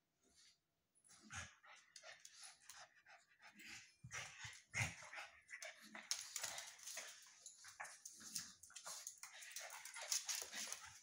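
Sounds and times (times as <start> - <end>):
dogs panting: 1.0 - 11.0.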